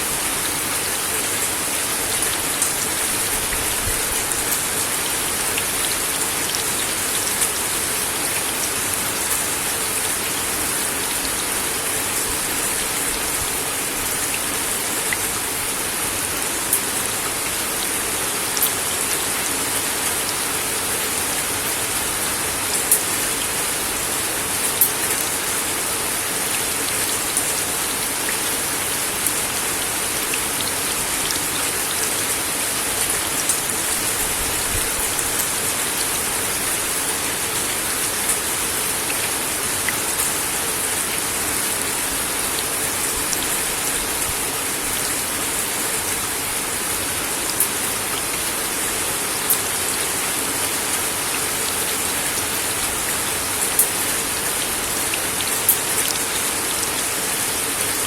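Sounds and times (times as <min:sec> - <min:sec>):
rain on a wooden deck: 0:00.0 - 0:58.0.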